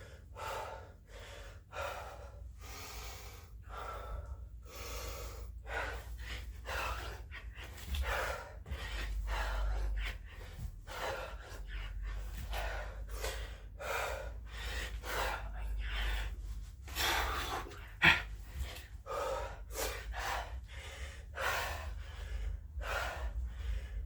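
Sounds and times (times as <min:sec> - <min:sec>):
man gasping for breath: 0:00.0 - 0:24.0.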